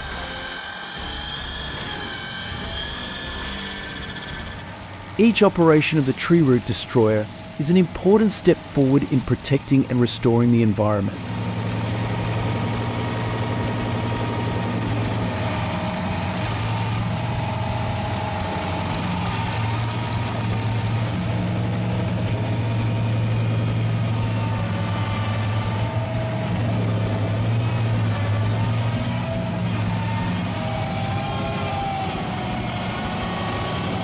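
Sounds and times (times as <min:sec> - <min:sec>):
heavy machine engine running: 0:00.0 - 0:34.0.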